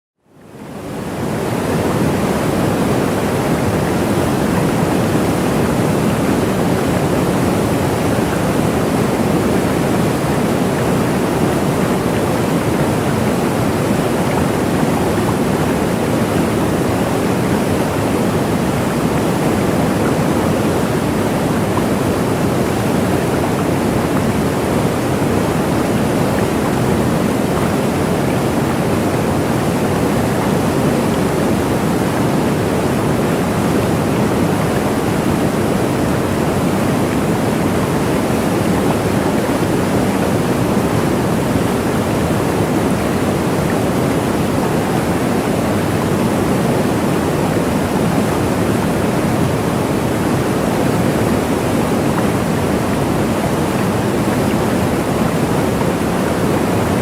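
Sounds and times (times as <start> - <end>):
waterfall rushing: 0.5 - 57.0.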